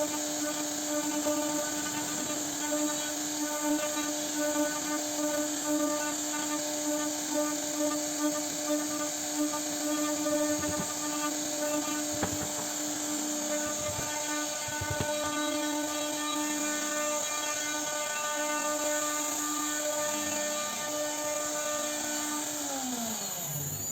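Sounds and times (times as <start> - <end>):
router spindle whining: 0.0 - 23.9.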